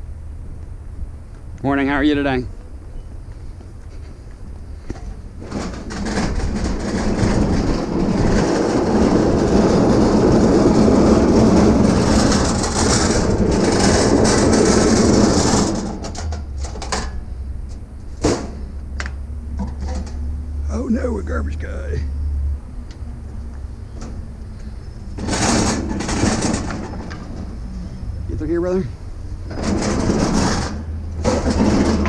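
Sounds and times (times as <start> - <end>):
vehicle rumble with rattling: 0.0 - 32.0
low engine hum: 2.5 - 32.0.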